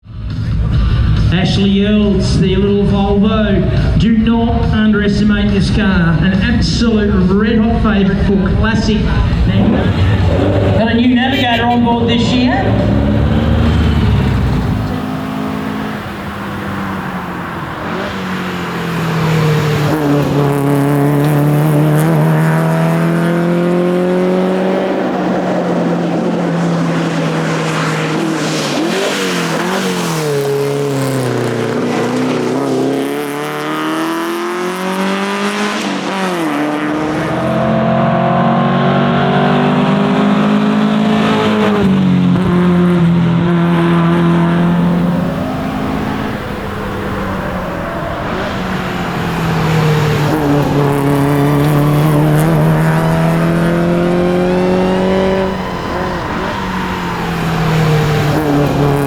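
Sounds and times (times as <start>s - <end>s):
car engine revving hard: 1.2s - 59.0s.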